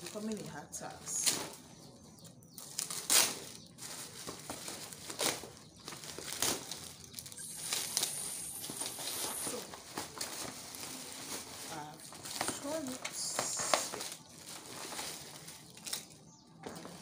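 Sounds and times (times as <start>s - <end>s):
packaging tearing and crumpling: 2.5s - 17.0s.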